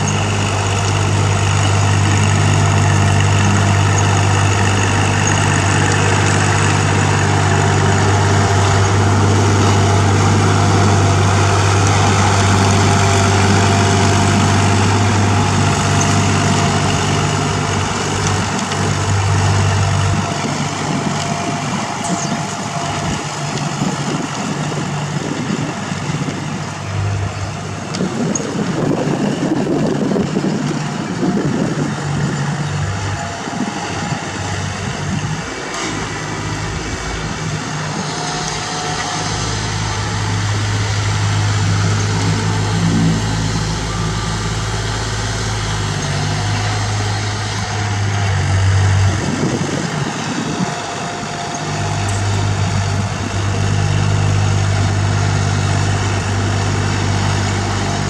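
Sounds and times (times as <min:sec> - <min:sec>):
rotary tiller working soil: 0:00.0 - 0:58.0
tractor diesel engine running: 0:00.0 - 0:58.0.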